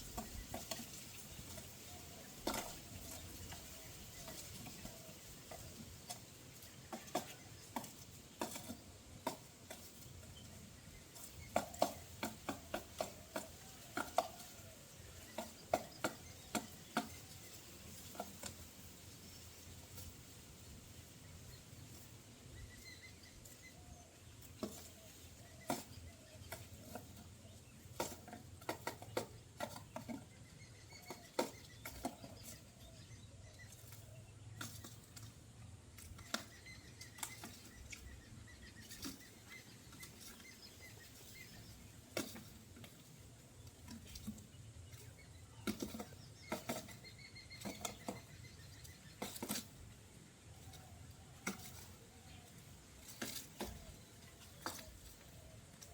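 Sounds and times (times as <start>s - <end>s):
bird taps and scratches: 0.0s - 55.9s.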